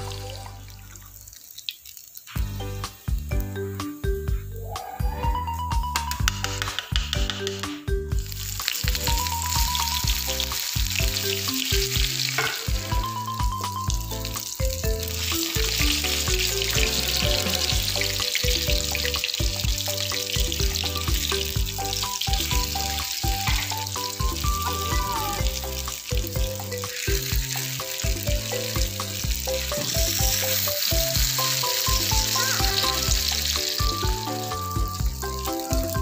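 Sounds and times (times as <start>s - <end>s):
food frying in hot oil: 0.0s - 4.4s, 8.1s - 36.0s
music with bass beat: 2.4s - 36.0s.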